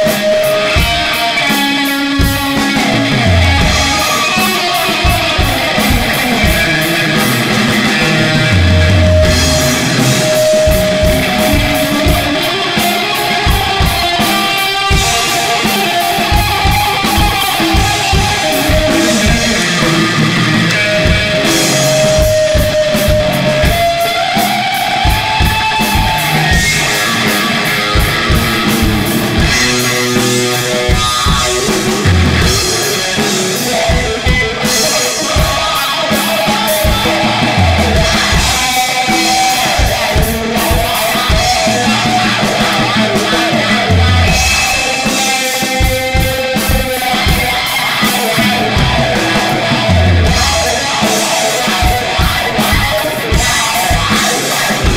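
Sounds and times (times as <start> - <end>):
drum kit: 0.0 - 54.9
electric guitar: 0.0 - 54.9.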